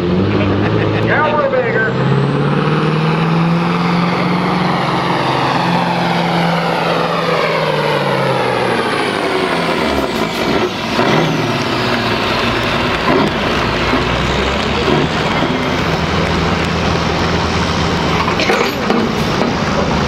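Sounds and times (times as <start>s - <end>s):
diesel truck engine at full throttle: 0.0s - 20.0s.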